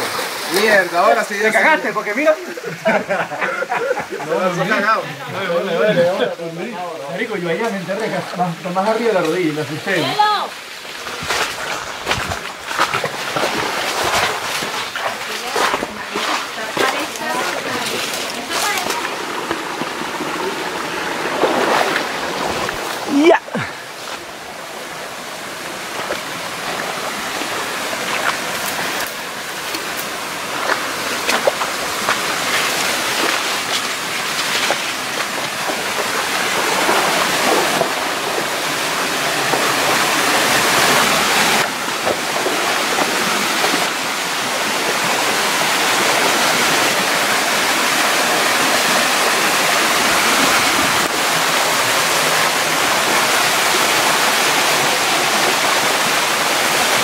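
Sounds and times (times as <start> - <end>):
water splashing into a pool: 0.0 - 1.5, 10.2 - 24.5, 25.4 - 57.0.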